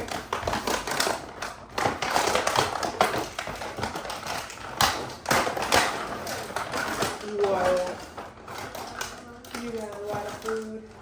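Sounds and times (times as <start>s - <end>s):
toy food pieces clicking and clattering: 0.0s - 11.0s.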